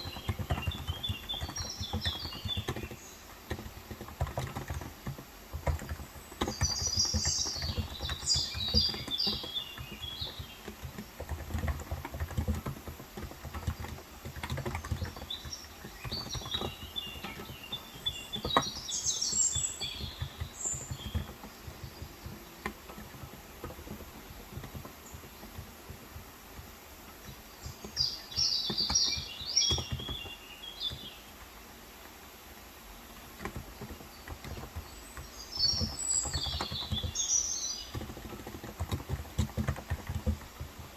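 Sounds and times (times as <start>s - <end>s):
soft keyboard typing: 0.0s - 32.2s, 32.8s - 40.9s
birds chirping: 0.0s - 40.9s.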